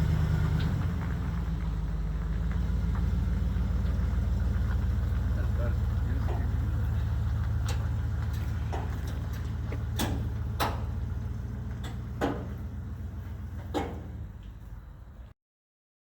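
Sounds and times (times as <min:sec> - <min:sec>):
truck engine droning: 0:00.0 - 0:15.3.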